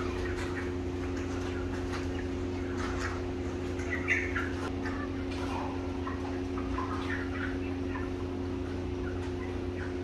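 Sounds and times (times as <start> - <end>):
chickens clucking and cheeping: 0.0 - 10.0
steady low hum: 0.0 - 10.0.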